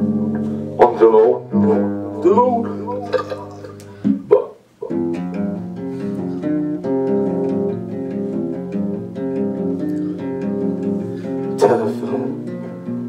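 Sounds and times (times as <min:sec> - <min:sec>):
classical guitar strumming chords: 0:00.0 - 0:13.0.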